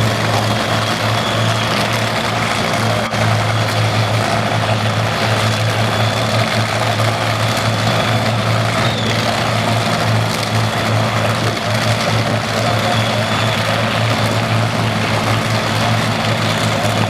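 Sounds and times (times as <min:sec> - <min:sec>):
race car engine idling: 0:00.0 - 0:17.0.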